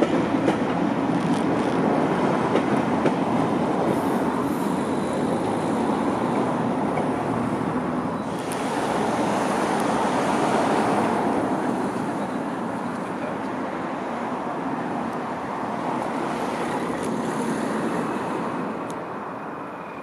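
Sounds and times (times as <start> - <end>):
diesel locomotive approaching: 0.0 - 20.0
train rumbling on track: 0.0 - 20.0.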